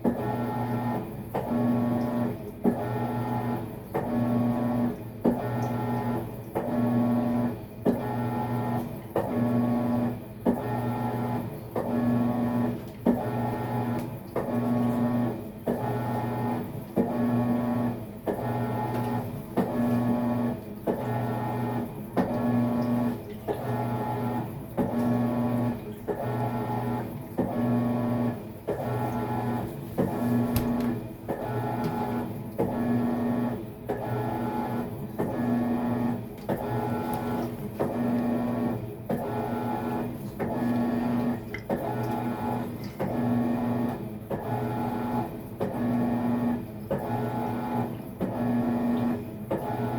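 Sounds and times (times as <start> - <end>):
washing machine motor agitating: 0.0 - 49.9.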